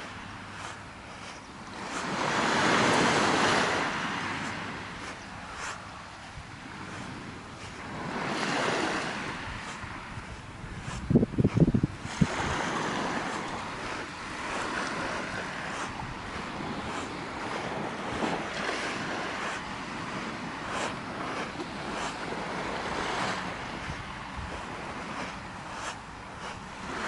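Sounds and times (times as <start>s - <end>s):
waves washing onto pebble beach: 0.0s - 27.0s.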